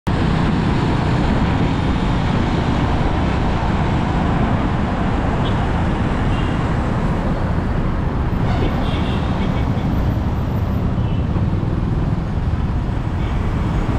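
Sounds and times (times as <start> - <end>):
road and traffic noise: 0.0 - 13.9.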